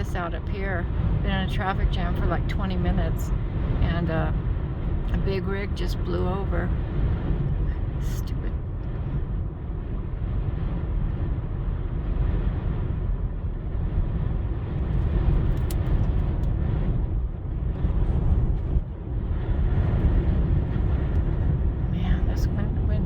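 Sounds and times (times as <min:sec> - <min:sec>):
car cabin rumble: 0:00.0 - 0:23.0
wind buffeting car: 0:00.0 - 0:23.0.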